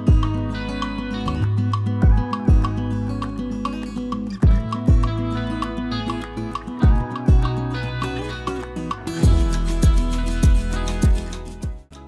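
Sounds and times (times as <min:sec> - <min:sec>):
background music with kick drum: 0:00.0 - 0:12.0.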